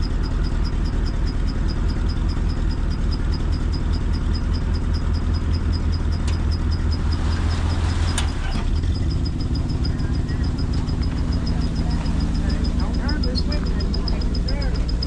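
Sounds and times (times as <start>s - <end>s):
chopper engine running under load: 0.0s - 15.0s
faint regular ticking: 0.0s - 15.0s.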